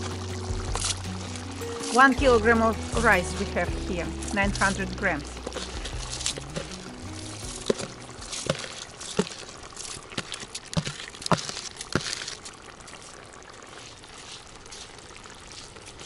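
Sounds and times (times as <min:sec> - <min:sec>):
simmering liquid hissing: 0:00.0 - 0:16.0
wet rice poured into pot: 0:02.7 - 0:16.0.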